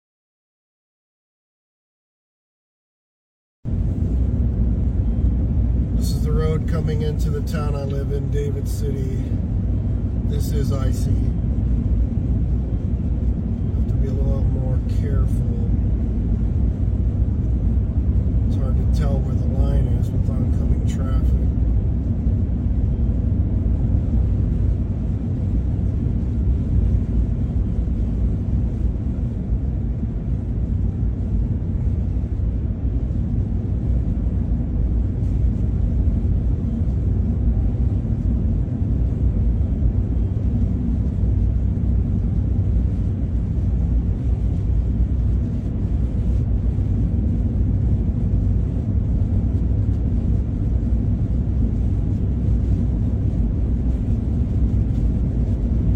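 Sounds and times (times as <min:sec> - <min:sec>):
truck rumble from inside cab: 0:03.7 - 0:55.9.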